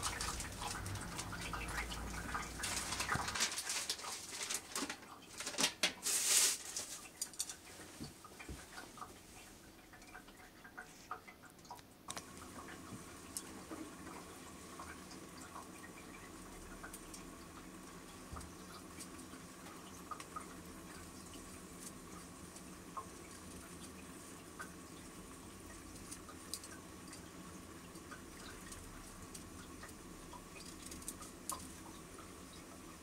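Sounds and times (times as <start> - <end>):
soft steady hiss: 0.0 - 33.0.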